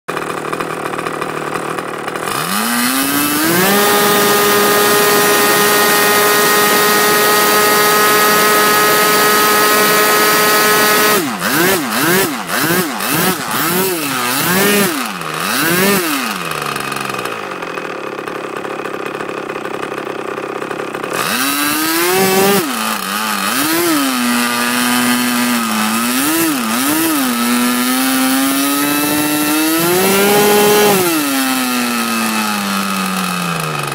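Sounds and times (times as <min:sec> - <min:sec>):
model glow engine revving: 0:00.2 - 0:33.9.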